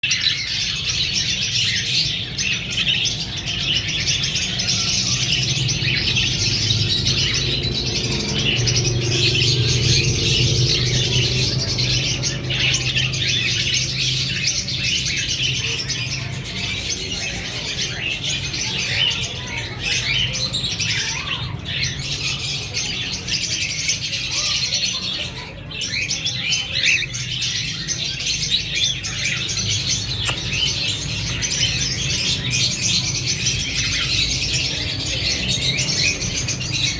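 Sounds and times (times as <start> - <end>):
cockatiels chirping: 0.0 - 36.9.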